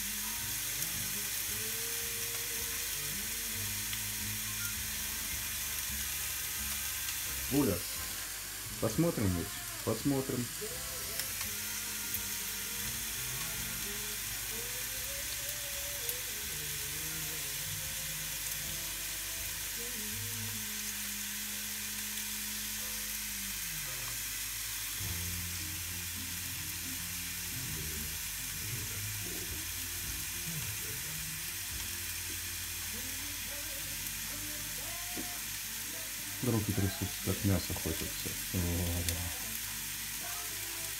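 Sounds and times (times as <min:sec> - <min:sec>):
steak sizzling on a grill: 0:00.0 - 0:40.9.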